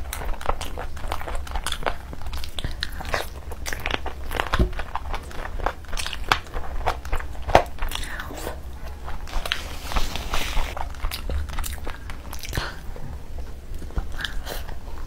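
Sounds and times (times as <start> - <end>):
chewing and crunching meat: 0.0 - 15.0.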